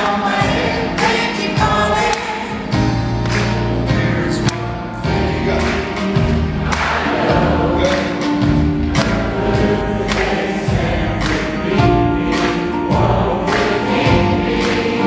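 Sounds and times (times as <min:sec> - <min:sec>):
group vocals: 0:00.0 - 0:02.9, 0:03.8 - 0:15.0
live band playing pop song: 0:00.0 - 0:15.0
drum and cymbal hits: 0:00.2 - 0:15.0.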